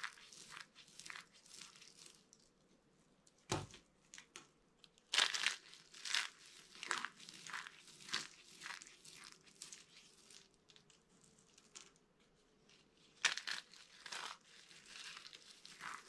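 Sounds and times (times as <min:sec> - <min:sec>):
dry soap crunching by hand: 0:00.0 - 0:02.5, 0:04.1 - 0:12.0, 0:13.0 - 0:16.0.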